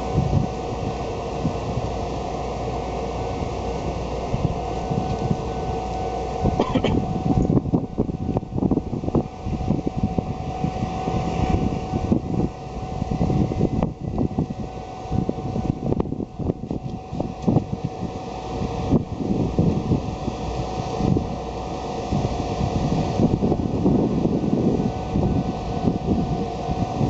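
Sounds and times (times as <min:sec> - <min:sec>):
train rumbling and clattering: 0:00.0 - 0:27.0.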